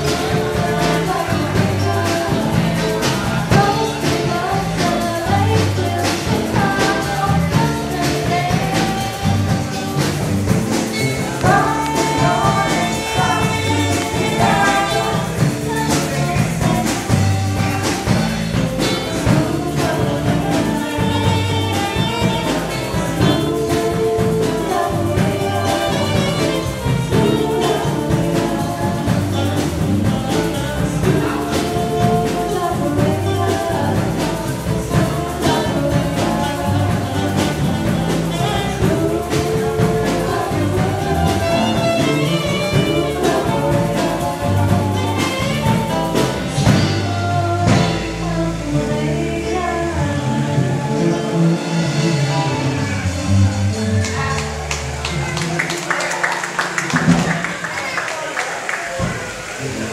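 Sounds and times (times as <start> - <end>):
woman singing: 0.0 - 52.8
bass line: 0.0 - 57.7
band playing jazzy pop song: 0.0 - 59.9
guitar: 0.0 - 59.9
horn: 0.0 - 59.9.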